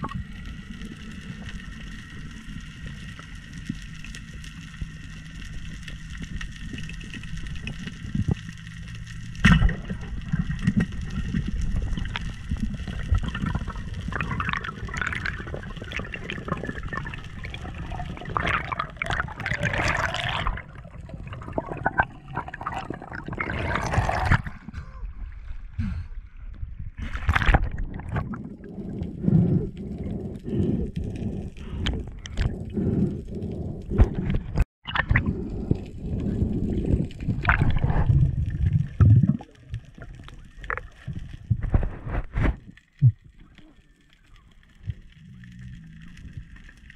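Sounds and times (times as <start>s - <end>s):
motor hum underwater: 0.0s - 46.9s.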